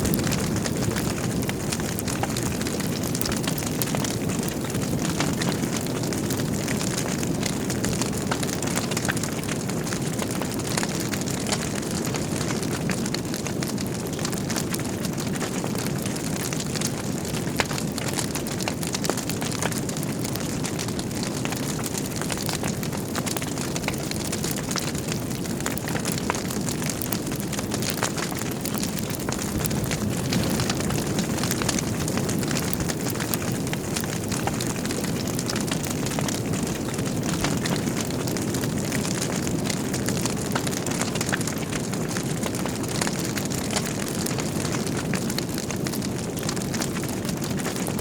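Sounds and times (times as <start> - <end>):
logs crackling and popping: 0.0 - 48.0
rush of flames: 0.0 - 48.0.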